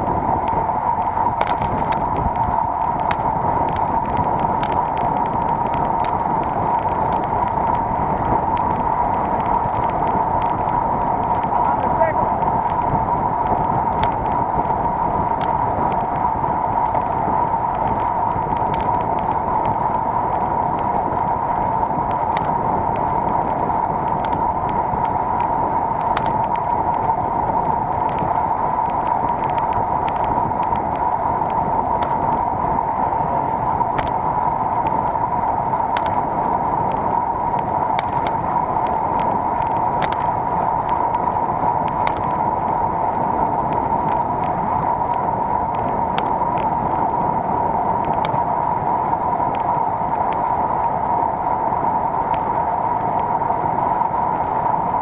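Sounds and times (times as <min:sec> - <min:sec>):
faint ticks: 0:00.0 - 0:55.0
wind noise: 0:00.0 - 0:55.0.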